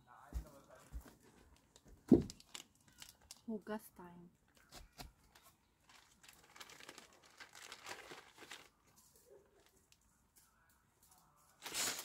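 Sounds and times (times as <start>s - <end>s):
crinkling and rustling: 0.3s - 3.5s, 4.6s - 12.0s.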